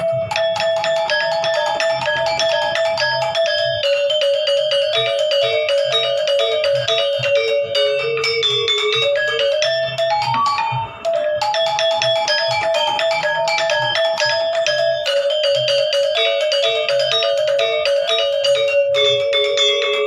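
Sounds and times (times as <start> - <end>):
gamelan metallophone strikes: 0.0 - 20.0.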